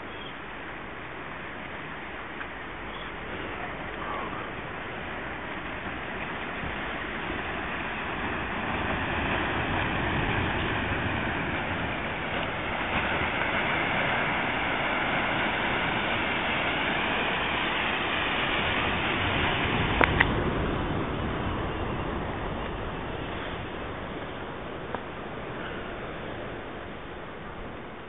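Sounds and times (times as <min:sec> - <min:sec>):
surf breaking on rocky shore: 0:00.0 - 0:28.0.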